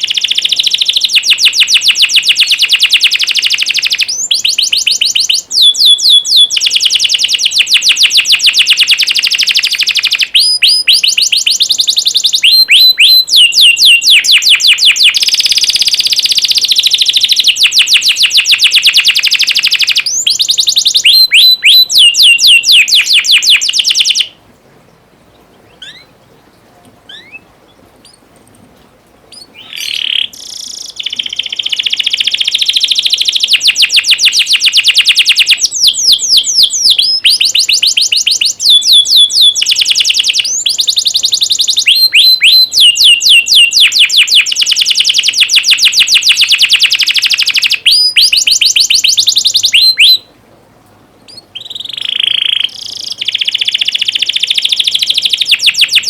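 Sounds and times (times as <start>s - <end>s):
canary singing trills: 0.0s - 28.5s, 29.2s - 50.3s, 51.2s - 56.0s.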